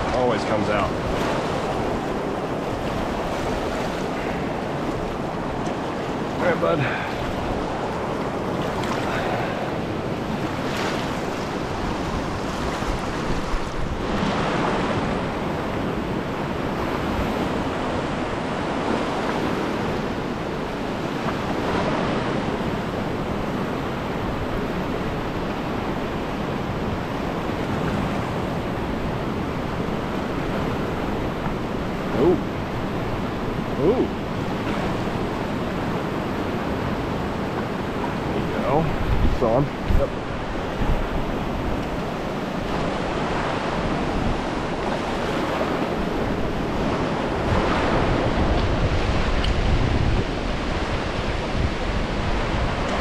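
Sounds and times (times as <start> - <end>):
river rushing through rapids: 0.0 - 53.0.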